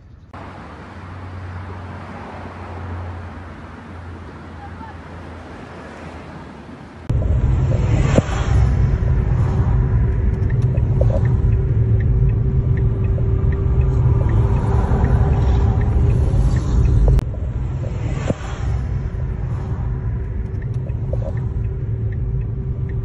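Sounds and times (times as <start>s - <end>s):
jet aircraft rumbling overhead: 0.4s - 23.0s.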